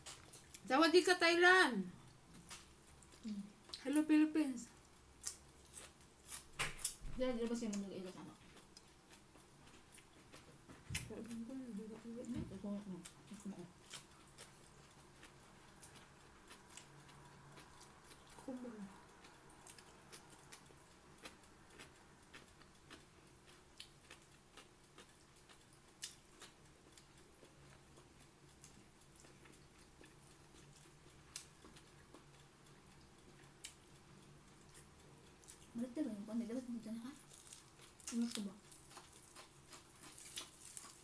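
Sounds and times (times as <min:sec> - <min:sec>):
person chewing: 0:00.0 - 0:00.7, 0:02.0 - 0:03.8, 0:04.8 - 0:07.0, 0:08.4 - 0:11.4, 0:13.0 - 0:35.8, 0:37.2 - 0:41.0.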